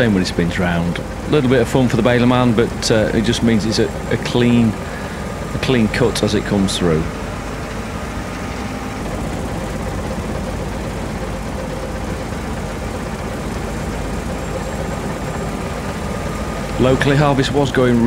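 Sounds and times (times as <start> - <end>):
combine harvester machinery drone: 0.0 - 18.0
faint steady tones: 0.0 - 18.0.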